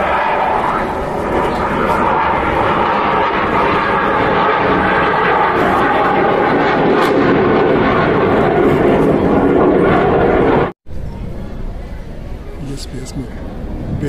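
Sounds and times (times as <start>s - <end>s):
jet engine roar overhead: 0.0s - 14.0s.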